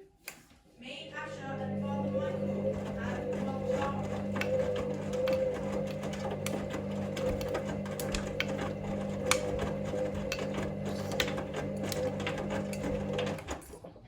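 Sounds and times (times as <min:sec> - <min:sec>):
washing machine motor hum: 0:01.0 - 0:14.0.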